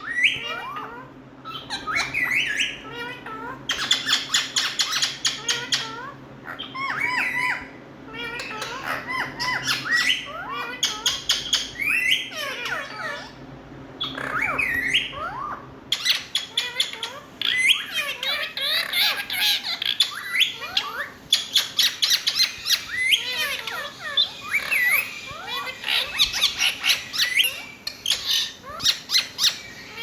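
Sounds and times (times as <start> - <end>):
parakeet squawking and chattering: 0.0 - 30.0.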